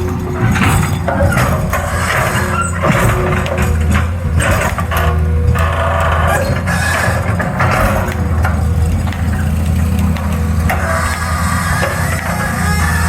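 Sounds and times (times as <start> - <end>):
digging knocks: 0.0 - 13.0
excavator diesel engine running: 0.0 - 13.0.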